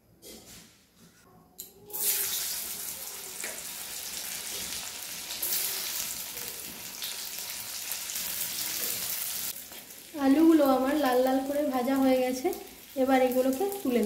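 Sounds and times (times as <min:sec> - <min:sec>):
potatoes sizzling in hot oil: 0:01.9 - 0:14.0.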